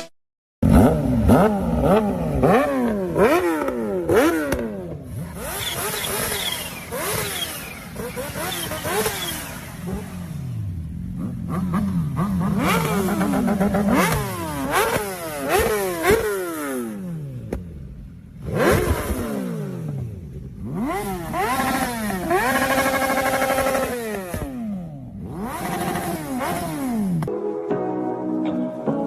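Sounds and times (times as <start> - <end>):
motorcycle engines revving: 0.0 - 27.3.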